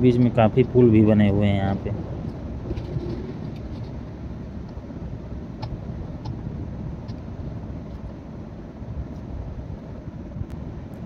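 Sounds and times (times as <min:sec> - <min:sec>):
train coach rumbling: 0:00.0 - 0:10.8.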